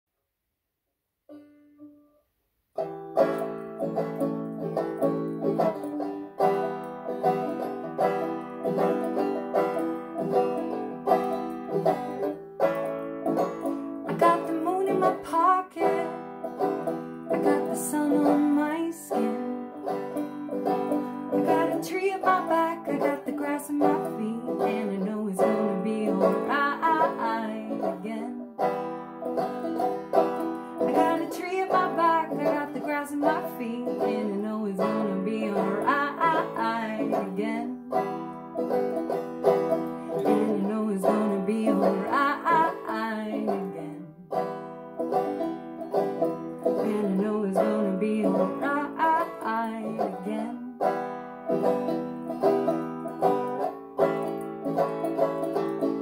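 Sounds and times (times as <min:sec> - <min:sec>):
plucked acoustic strings: 0:02.8 - 0:56.0.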